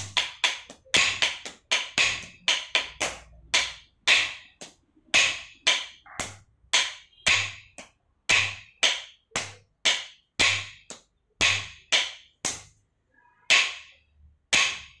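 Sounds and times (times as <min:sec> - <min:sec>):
sticks striking wooden blocks: 0:00.0 - 0:12.8, 0:13.5 - 0:15.0.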